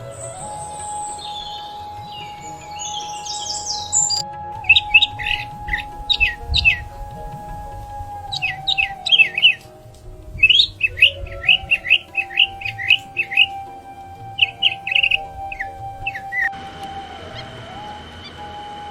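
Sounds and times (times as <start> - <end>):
bird chirping: 0.0 - 16.6
soft background music: 0.0 - 18.9.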